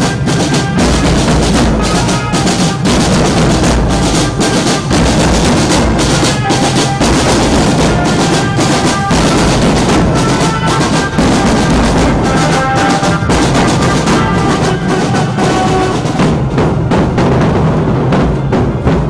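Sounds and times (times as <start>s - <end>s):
marching drum band: 0.0s - 19.0s.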